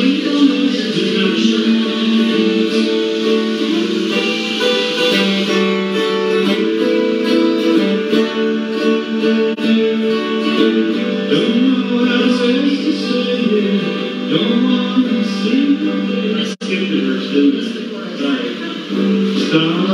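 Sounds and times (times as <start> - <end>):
acoustic guitar plucking: 0.0 - 19.9.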